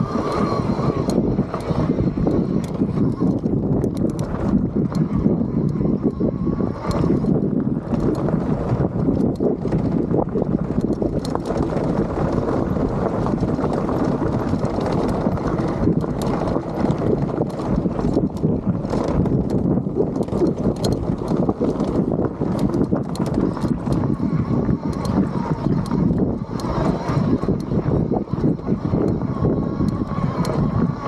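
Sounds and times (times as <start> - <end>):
bike clacks and rattles: 0.0 - 31.0
bike tyres grinding over rock: 0.0 - 31.0
wind buffeting microphone: 0.0 - 31.0.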